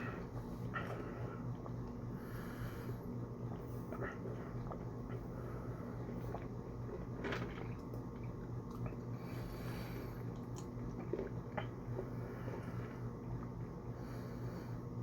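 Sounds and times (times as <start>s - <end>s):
chewing food: 0.0s - 2.3s, 3.0s - 13.9s
steady low hum: 0.0s - 15.0s.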